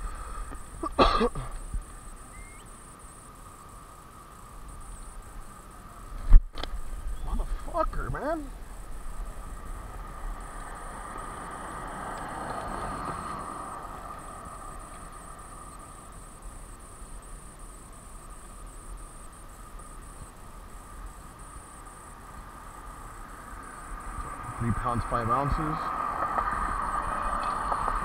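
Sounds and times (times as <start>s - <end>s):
background hum: 0.0s - 28.0s
insects chirping: 0.0s - 28.0s.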